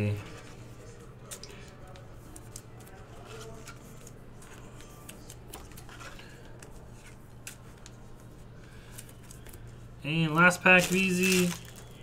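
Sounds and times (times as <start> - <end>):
cards flipping by hand: 0.2 - 9.8, 10.6 - 12.0.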